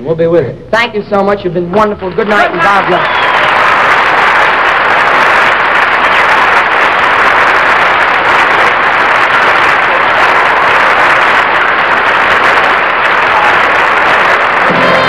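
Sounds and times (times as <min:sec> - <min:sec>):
audience applauding: 0:02.0 - 0:15.0.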